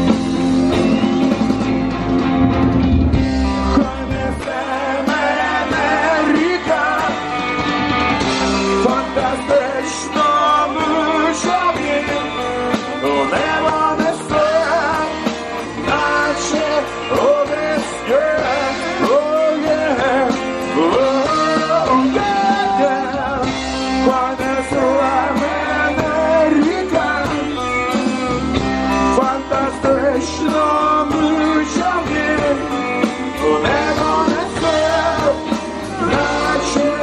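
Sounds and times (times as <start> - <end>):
live rock band playing: 0.0 - 37.0
sliding bending lead guitar line: 0.0 - 37.0.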